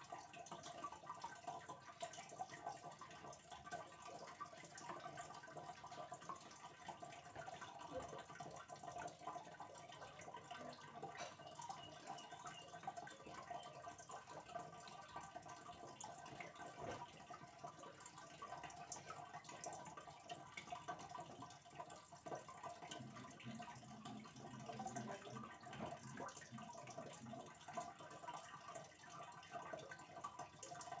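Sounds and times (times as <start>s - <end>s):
water trickling and dripping: 0.0s - 31.0s.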